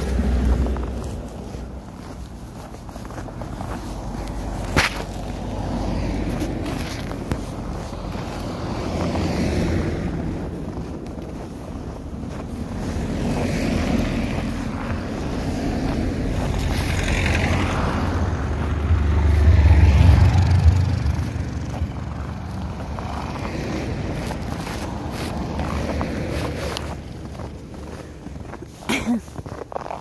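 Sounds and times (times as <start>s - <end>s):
cars driving past on snow: 0.0s - 30.0s.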